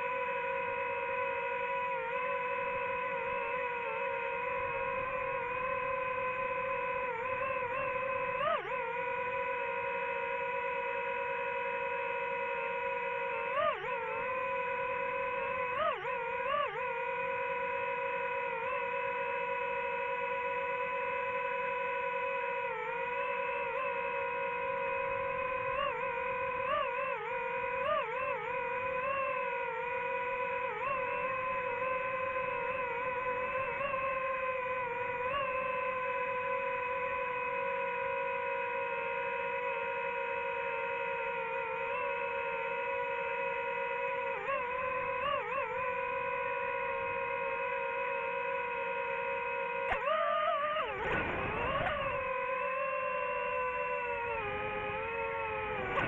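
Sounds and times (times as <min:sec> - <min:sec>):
drone propellers whining: 0:00.0 - 0:56.0.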